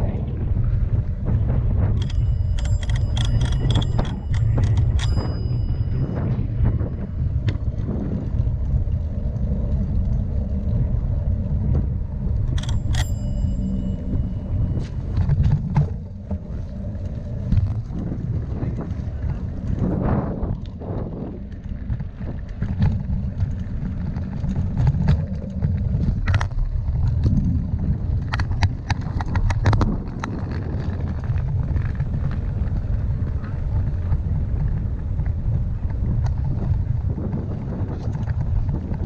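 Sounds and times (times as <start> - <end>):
bicycle tyres rumbling on bricks: 0.0 - 39.0
wind buffeting microphone: 0.0 - 39.0
bike rattling over stones: 0.6 - 39.0.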